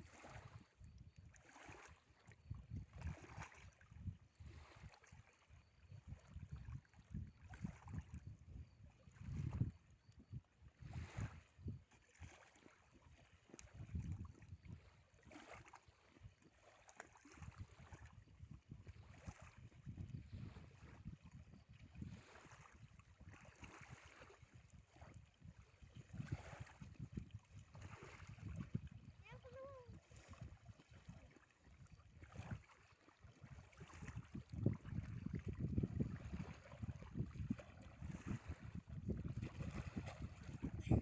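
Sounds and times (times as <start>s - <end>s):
water splashing against boat: 0.0s - 41.0s
wind buffeting microphone: 2.4s - 4.9s, 5.8s - 12.0s, 13.5s - 15.0s, 17.4s - 32.6s, 33.3s - 41.0s.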